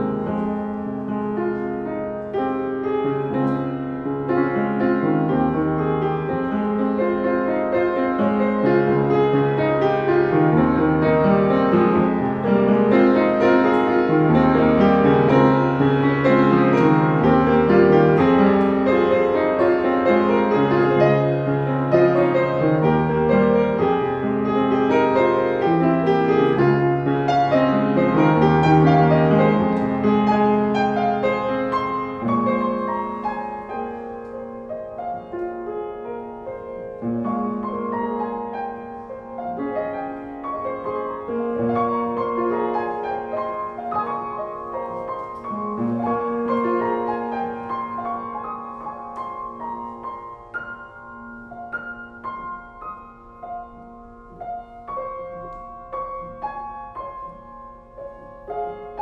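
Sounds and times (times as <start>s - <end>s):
gentle solo piano: 0.0s - 59.0s.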